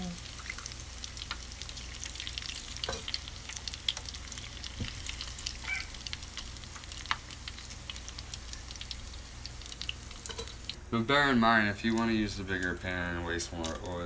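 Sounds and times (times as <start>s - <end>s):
deep-frying crackling sizzle: 0.0s - 14.0s.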